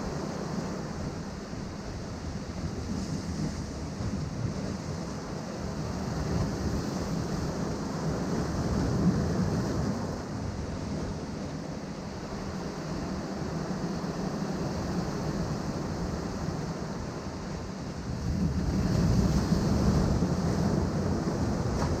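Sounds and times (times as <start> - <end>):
ocean surf on rocks: 0.0 - 22.0.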